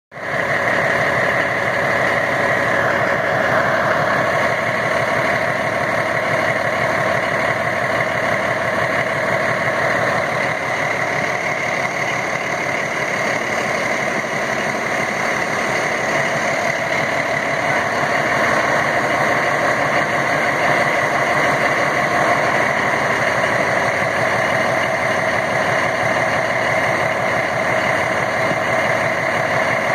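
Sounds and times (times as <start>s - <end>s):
diesel compressor running: 0.1s - 29.9s.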